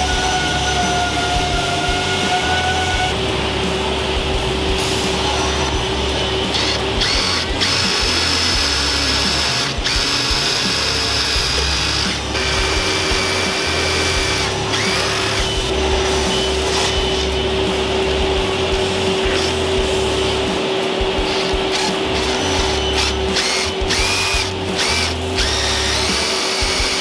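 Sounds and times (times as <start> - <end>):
impact driver whining: 0.0 - 27.0
low workshop hum: 0.0 - 27.0.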